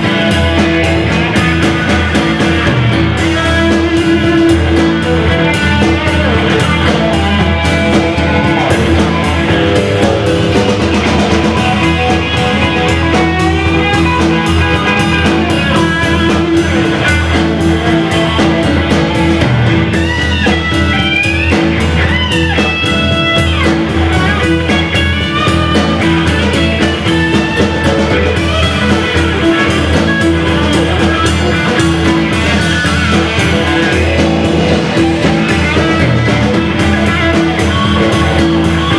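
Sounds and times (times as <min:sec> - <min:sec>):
lead electric guitar: 0:00.0 - 0:38.9
rock blues band playing: 0:00.0 - 0:38.9.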